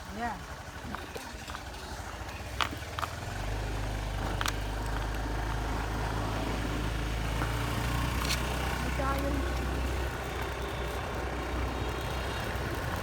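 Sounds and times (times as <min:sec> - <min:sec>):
motorbike engine rumbling: 0:00.2 - 0:13.0.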